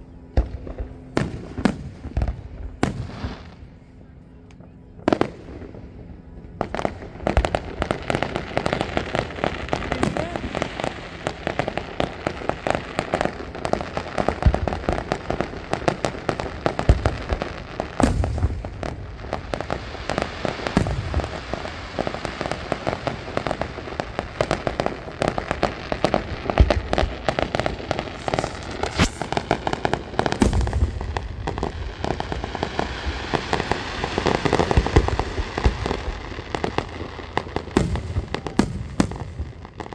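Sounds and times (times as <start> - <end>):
dense firework crackling: 0.0 - 39.9
firework shells booming: 6.6 - 39.9.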